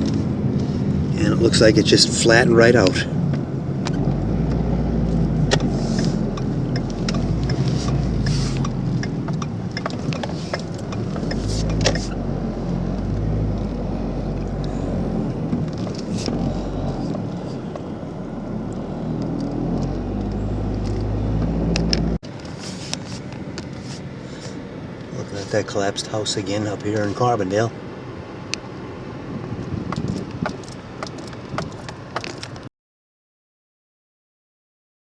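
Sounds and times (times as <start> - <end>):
car engine and tyre rumble: 0.0 - 32.7.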